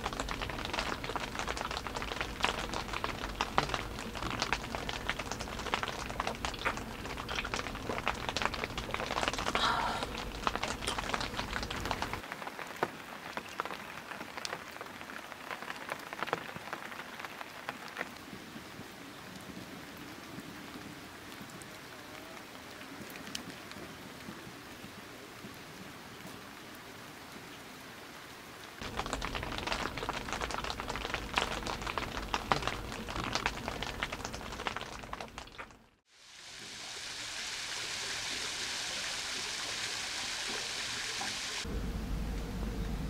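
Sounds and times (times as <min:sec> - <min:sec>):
rain on tent fabric: 0:00.0 - 0:41.8.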